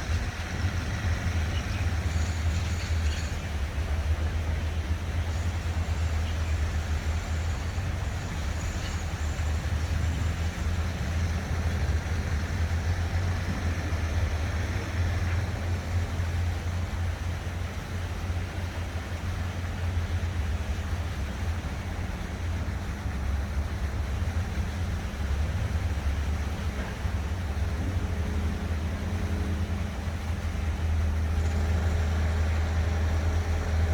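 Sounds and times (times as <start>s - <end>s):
fountain water running: 0.0s - 33.9s
low rumble of distant traffic: 0.0s - 33.9s.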